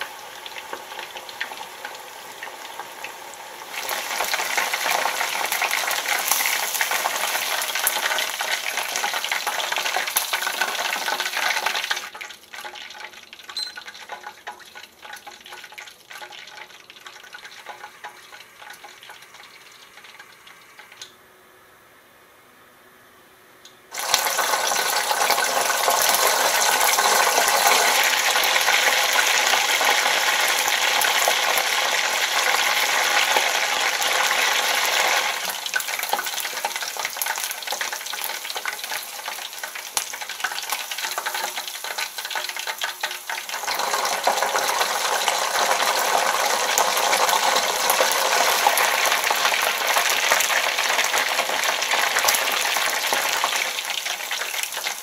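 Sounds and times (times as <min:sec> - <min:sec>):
chicken deep-frying in oil: 0:00.0 - 0:21.2, 0:23.8 - 0:55.0.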